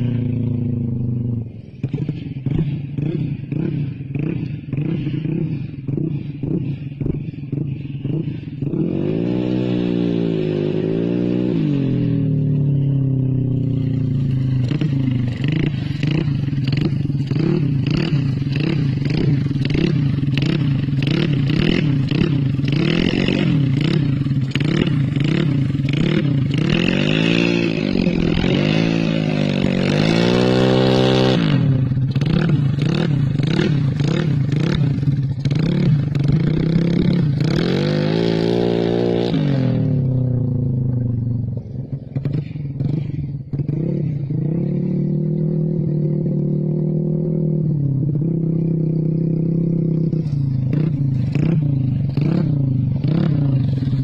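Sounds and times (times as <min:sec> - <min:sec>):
scooter engine revving: 0:00.0 - 0:54.0.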